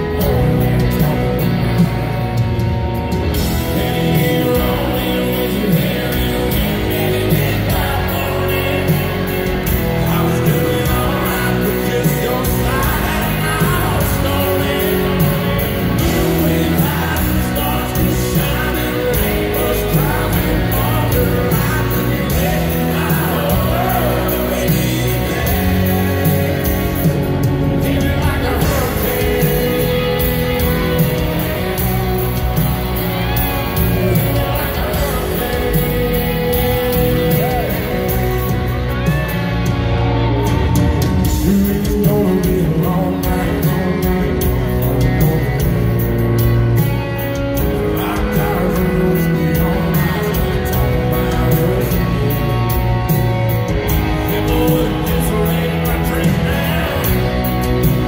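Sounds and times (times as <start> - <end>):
man singing: 0.0 - 2.2, 3.3 - 39.4, 40.2 - 58.0
live country band playing: 0.0 - 58.0.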